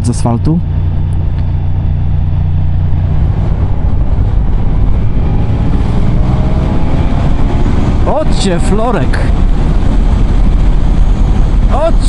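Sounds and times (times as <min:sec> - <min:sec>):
wind rush on microphone: 0:00.7 - 0:12.0.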